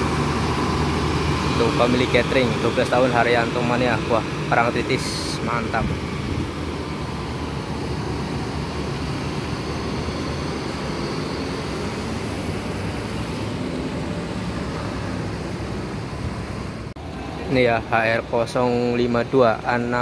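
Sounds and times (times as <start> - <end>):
diesel bus engine rumbling: 0.0 - 20.0.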